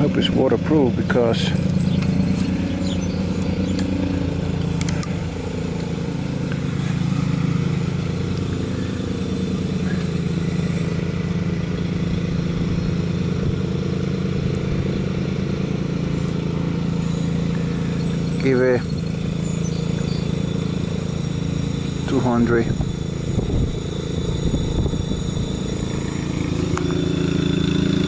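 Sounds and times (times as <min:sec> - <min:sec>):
engine running with low drone: 0:00.0 - 0:28.0.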